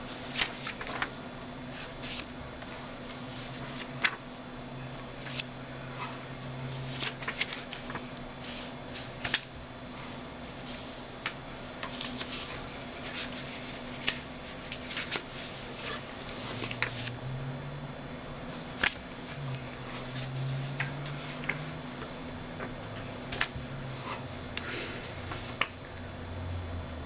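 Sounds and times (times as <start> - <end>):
paper rustling and crinkling: 0.1 - 4.3, 5.2 - 17.1, 18.5 - 24.3.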